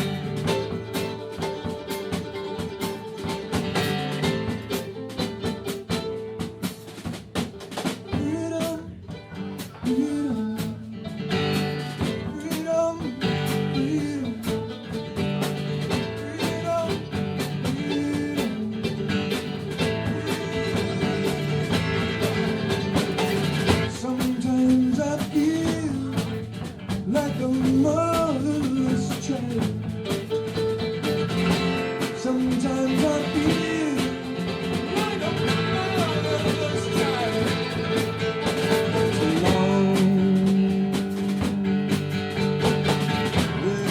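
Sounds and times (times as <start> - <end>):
electric guitar: 0.0 - 43.9
live rock band playing: 0.0 - 43.9.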